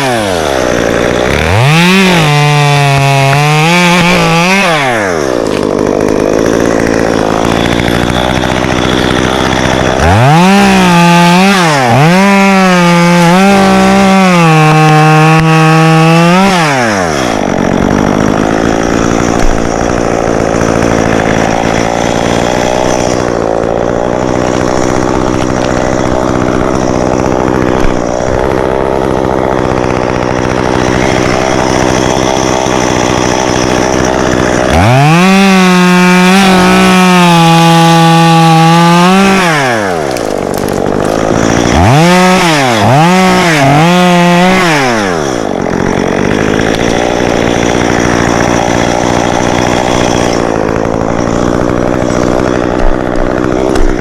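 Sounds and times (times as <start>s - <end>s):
chainsaw idling and revving: 0.0s - 54.0s.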